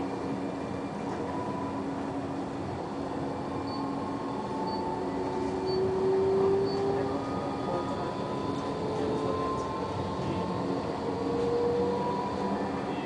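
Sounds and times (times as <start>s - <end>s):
tram motor tones: 0.0s - 13.0s
tram wheels rumbling on rails: 0.0s - 13.0s.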